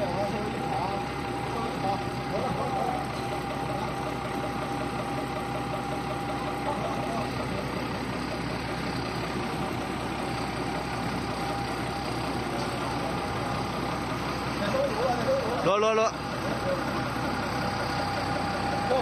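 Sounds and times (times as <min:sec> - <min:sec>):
faint steady whine: 0:00.0 - 0:19.0
tractor engine running: 0:00.0 - 0:19.0.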